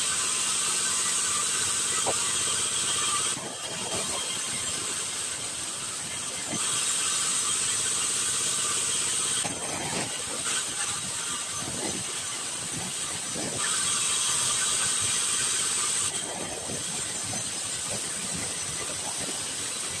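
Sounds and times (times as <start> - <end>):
band saw cutting wood: 0.0 - 20.0.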